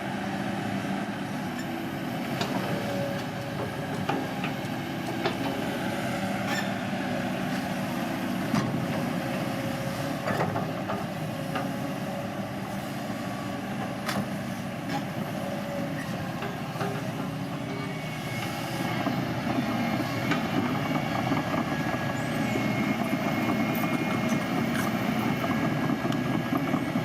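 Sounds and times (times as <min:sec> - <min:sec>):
bulldozer diesel engine running: 0:00.1 - 0:27.0.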